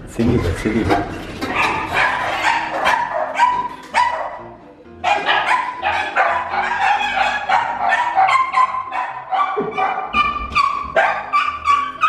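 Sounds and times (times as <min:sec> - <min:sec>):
dogs barking frantically: 0:00.2 - 0:12.0.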